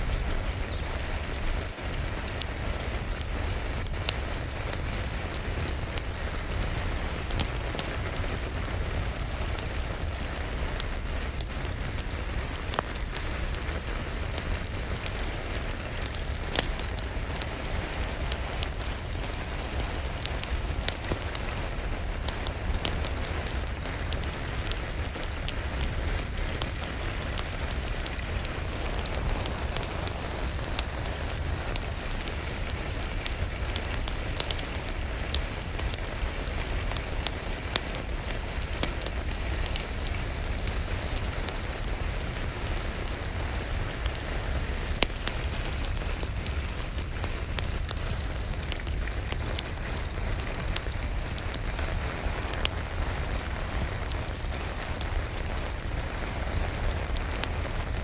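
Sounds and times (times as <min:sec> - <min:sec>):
steady rain falling: 0:00.0 - 0:58.0
wood fire crackling: 0:00.0 - 0:58.0.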